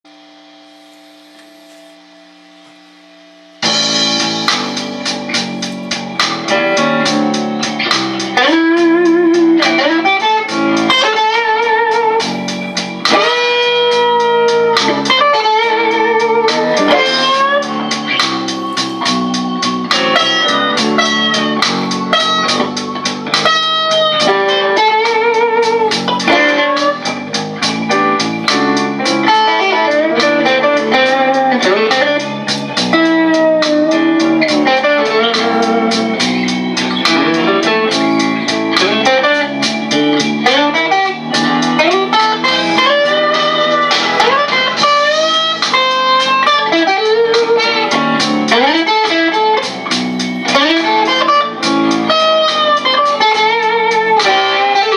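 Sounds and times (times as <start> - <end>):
blues backing track: 0.1 - 54.9
electric guitar blues lead: 0.1 - 54.9.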